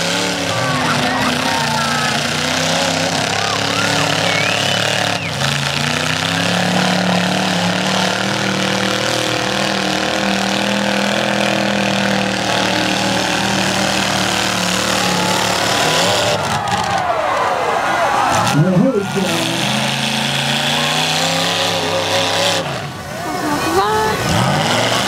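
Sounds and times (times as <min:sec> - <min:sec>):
car engines droning: 0:00.0 - 0:25.0.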